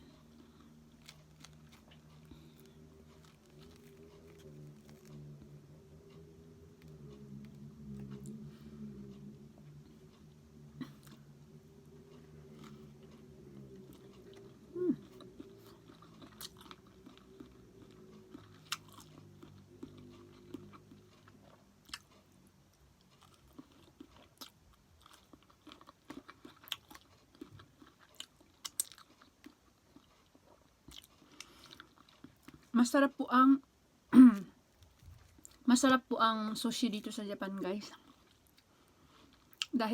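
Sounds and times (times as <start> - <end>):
person chewing: 0.0 - 32.7, 38.0 - 39.8
faint low hum: 0.0 - 39.9.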